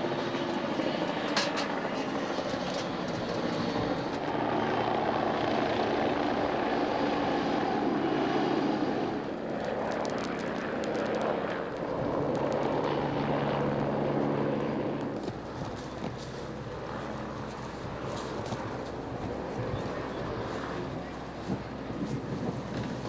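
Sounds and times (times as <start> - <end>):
helicopter engine and rotor: 0.0 - 23.0.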